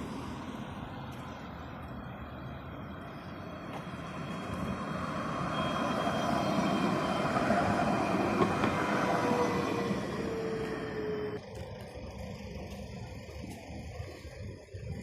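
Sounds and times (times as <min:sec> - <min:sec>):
tram wheels rumbling: 0:00.0 - 0:14.9
tram electric drive whine: 0:00.0 - 0:15.0.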